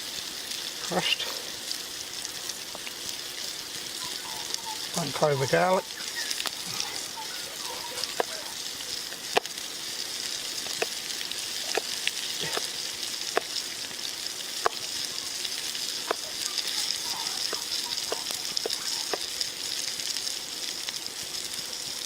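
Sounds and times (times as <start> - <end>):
fire pops and crackles: 0.0 - 22.0
food sizzling over campfire: 0.0 - 22.0.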